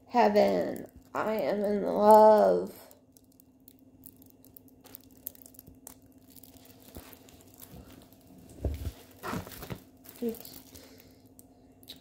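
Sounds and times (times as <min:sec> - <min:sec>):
plastic film crinkling: 0:00.3 - 0:11.9.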